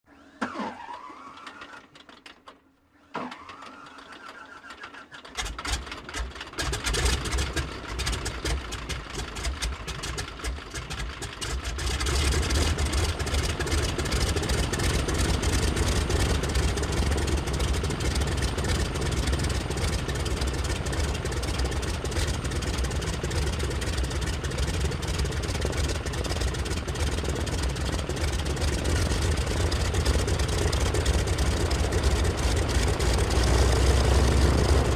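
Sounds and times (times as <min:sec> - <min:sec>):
radial aircraft engine starting and idling: 0:00.2 - 0:34.9.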